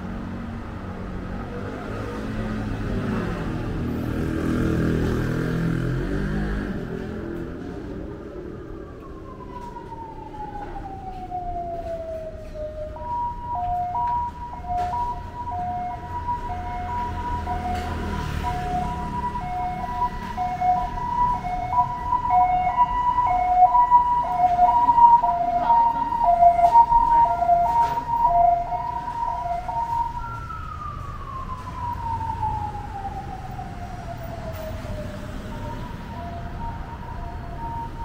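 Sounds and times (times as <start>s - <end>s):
emergency vehicle siren: 0.0s - 38.0s.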